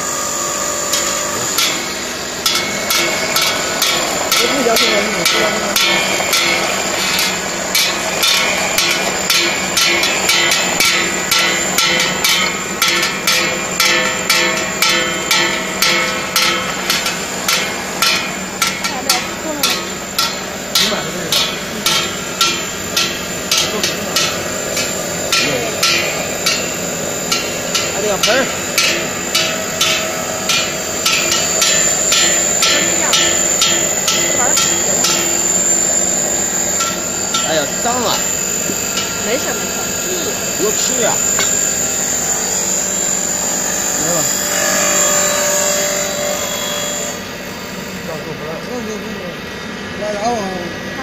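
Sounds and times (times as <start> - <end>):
grinding machine hum: 0.0 - 51.0.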